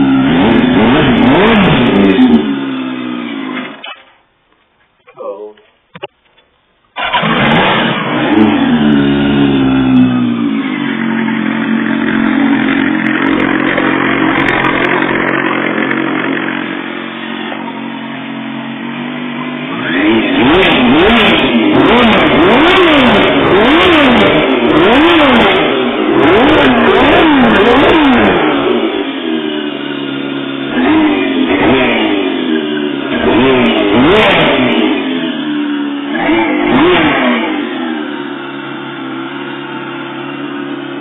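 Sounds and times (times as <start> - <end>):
motorcycle engine revving: 0.0 - 4.2, 7.0 - 41.0.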